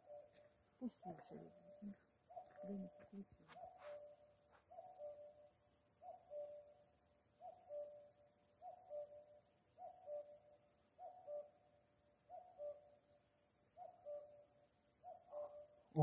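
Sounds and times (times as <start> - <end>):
cuckoo calling: 0.0 - 6.8, 7.4 - 11.6, 12.3 - 13.0, 13.8 - 14.4, 15.0 - 16.0.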